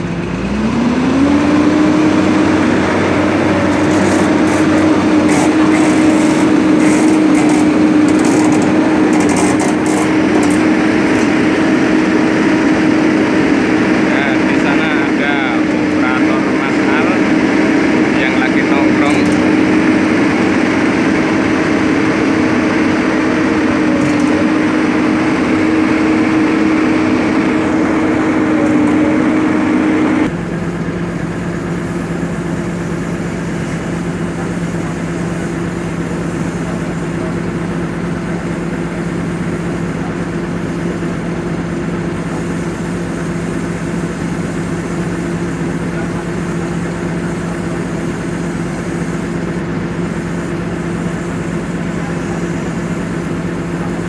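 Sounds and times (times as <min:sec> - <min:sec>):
bulldozer diesel engine running: 0:00.0 - 0:54.0
diesel engine idling: 0:00.0 - 0:54.0.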